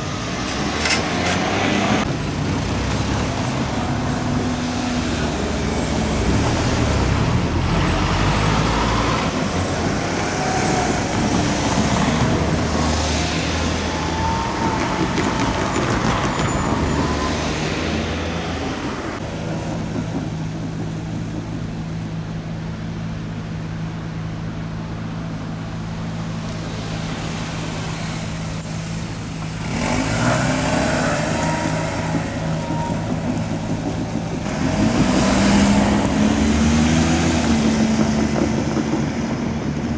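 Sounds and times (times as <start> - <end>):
vehicles passing: 0.0 - 39.9.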